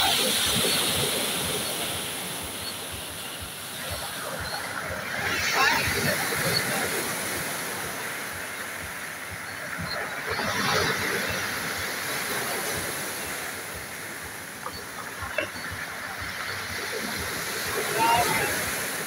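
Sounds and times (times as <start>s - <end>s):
waves washing onto pebble beach: 0.0s - 19.0s.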